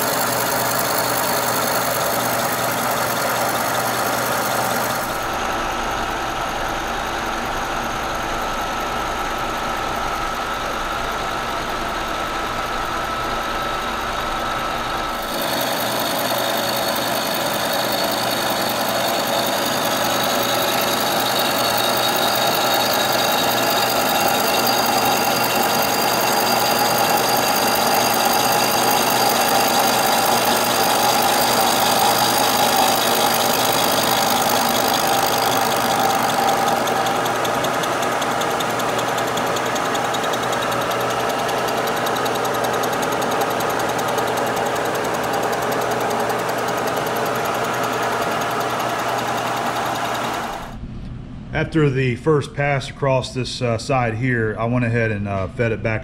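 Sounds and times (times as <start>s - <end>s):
milling machine cutting cast iron: 0.0s - 50.8s.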